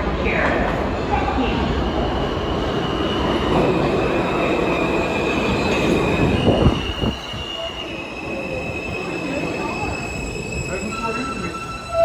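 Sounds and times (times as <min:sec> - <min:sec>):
subway train wheels rumbling: 0:00.0 - 0:12.0
wheels squealing on rails: 0:01.8 - 0:12.0.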